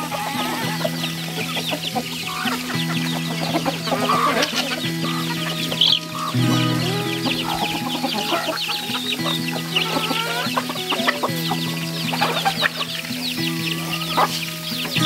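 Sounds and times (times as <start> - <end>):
background music with low notes: 0.0 - 15.0
chicks chirping rapidly: 0.0 - 15.0
hens and rooster clucking: 0.0 - 15.0.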